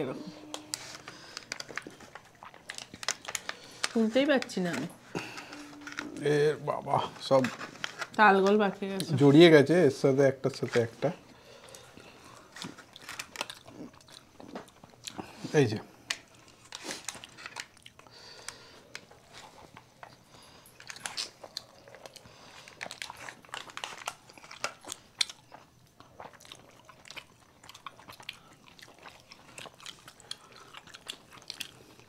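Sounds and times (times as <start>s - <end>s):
people chewing with mouth clicks: 0.2s - 8.2s, 10.6s - 32.0s.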